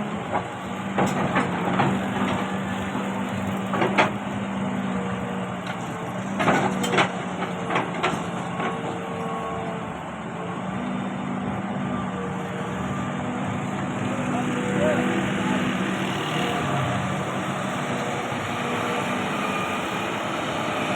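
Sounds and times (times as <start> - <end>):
excavator diesel engine running: 0.0 - 20.9.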